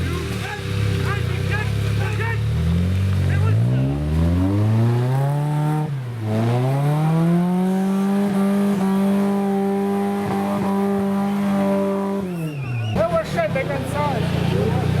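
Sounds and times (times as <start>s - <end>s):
vehicle engine revving hard: 0.0s - 15.0s.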